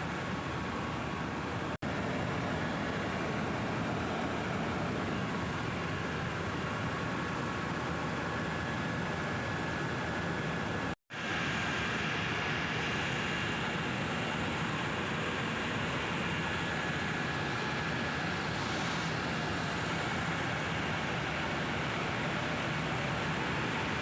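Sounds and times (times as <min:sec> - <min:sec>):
helicopter engine and rotors: 0:00.0 - 0:24.0.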